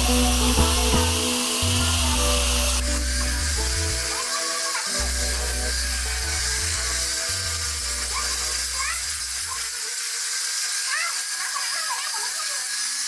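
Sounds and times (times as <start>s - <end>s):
angle grinder sanding wood: 0.0s - 13.0s.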